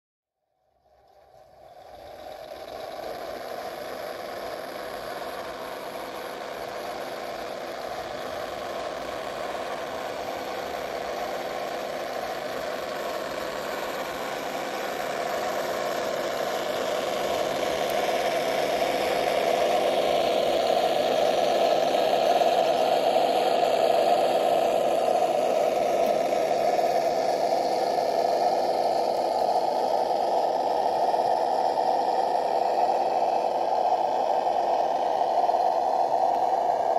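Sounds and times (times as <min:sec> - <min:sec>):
truck engine idling with knocking rattle: 0:01.2 - 0:36.9.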